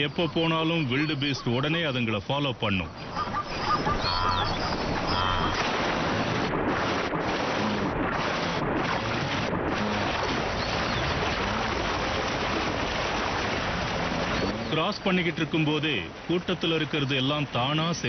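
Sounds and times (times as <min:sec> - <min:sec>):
animals splashing through river: 0:00.0 - 0:18.0.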